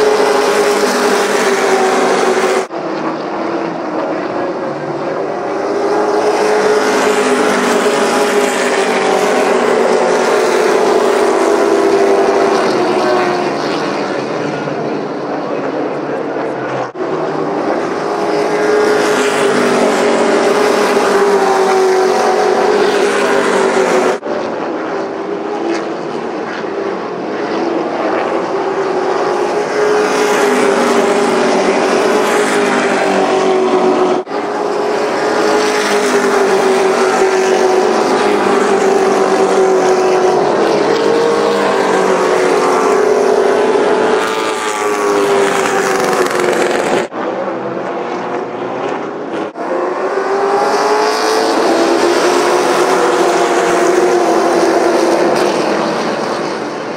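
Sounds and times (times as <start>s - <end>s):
racing truck engines droning: 0.0s - 56.9s.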